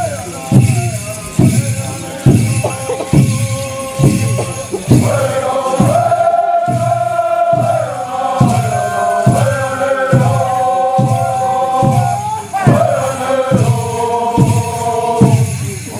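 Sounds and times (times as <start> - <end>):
men's chorus chanting: 0.0 - 15.9
drum beating slow pulse: 0.5 - 15.6.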